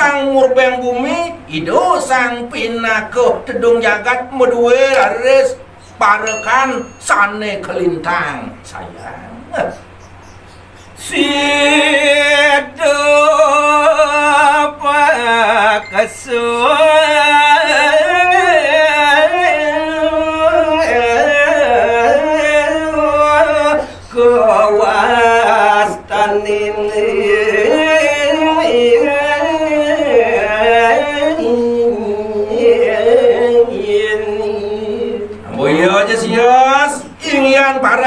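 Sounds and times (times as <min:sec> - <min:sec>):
man singing into a microphone: 0:00.0 - 0:07.3, 0:11.0 - 0:38.0.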